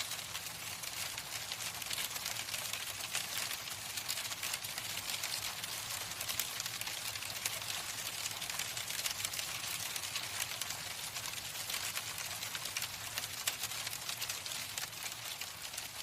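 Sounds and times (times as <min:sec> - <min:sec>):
hailstones pattering: 0:00.0 - 0:16.0.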